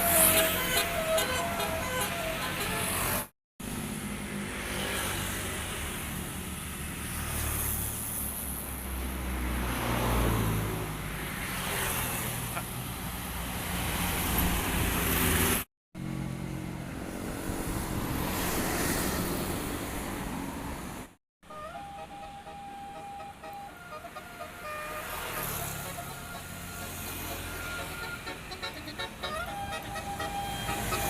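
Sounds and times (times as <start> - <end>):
vehicles passing close: 0.0 - 31.0.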